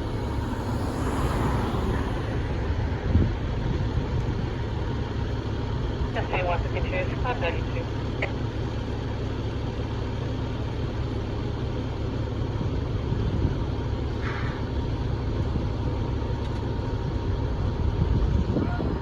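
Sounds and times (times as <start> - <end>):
fire truck engine idling: 0.0 - 19.0.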